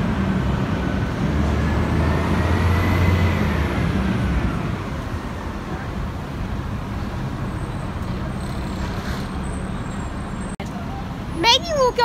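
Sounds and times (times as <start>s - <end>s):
heavy vehicle engine humming: 0.0s - 12.0s
street traffic: 0.0s - 12.0s.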